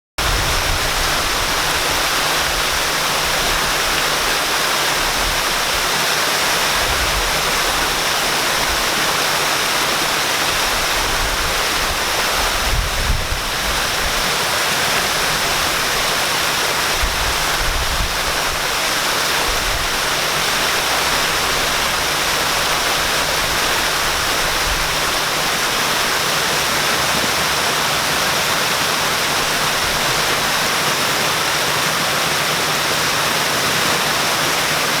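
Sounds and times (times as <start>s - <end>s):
waterfall pouring: 0.2s - 35.0s.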